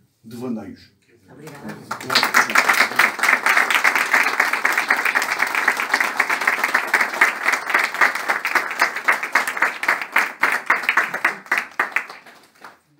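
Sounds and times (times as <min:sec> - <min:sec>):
audience applauding: 0:01.3 - 0:12.9.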